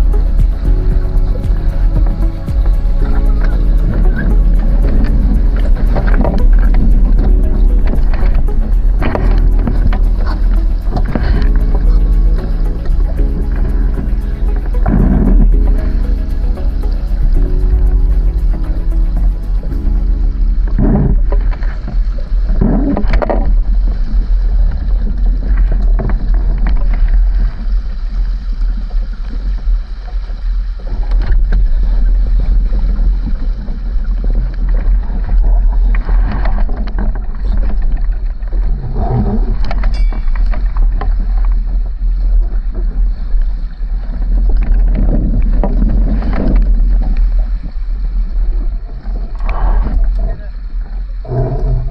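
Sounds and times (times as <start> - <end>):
water rushing past hull: 0.0 - 51.9
wind buffeting microphone: 0.0 - 51.9.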